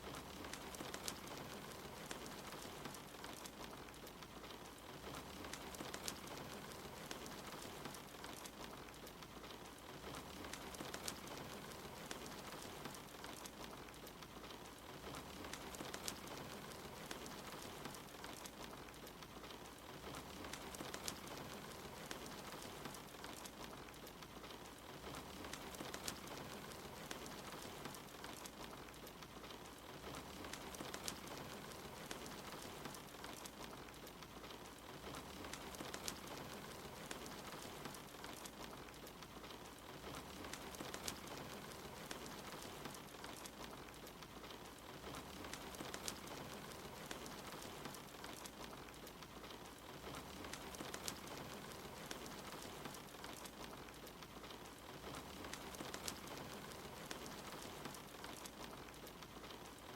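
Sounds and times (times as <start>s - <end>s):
fireplace crackling: 0.0s - 59.9s
soft steady rain: 0.0s - 59.9s.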